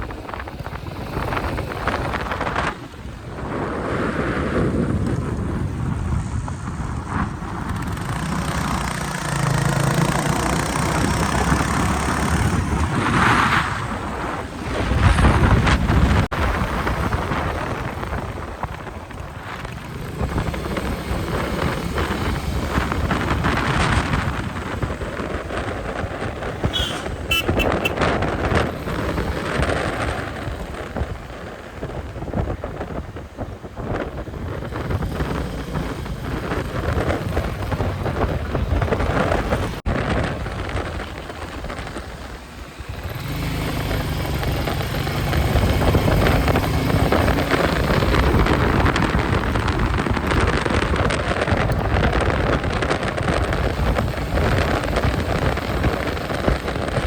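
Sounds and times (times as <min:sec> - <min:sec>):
wind on microphone: 0:00.0 - 0:57.0
motorcycle engine running: 0:04.8 - 0:13.2, 0:13.9 - 0:57.0.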